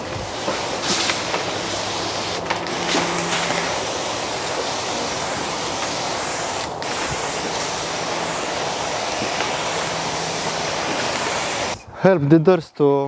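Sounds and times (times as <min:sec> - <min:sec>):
sprayer hissing: 0:00.0 - 0:11.9.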